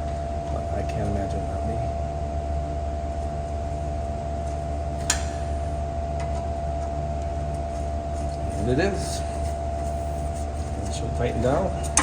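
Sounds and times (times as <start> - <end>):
electrical hum with whining tone: 0.0 - 12.0.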